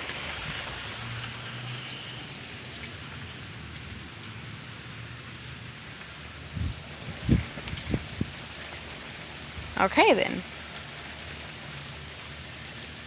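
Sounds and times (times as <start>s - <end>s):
steady rain pouring: 0.0s - 13.0s.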